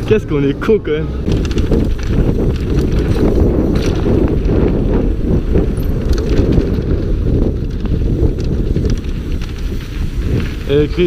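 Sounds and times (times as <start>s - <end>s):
bike chain and frame rattling: 0.0s - 11.0s
wind buffeting microphone: 0.0s - 11.0s.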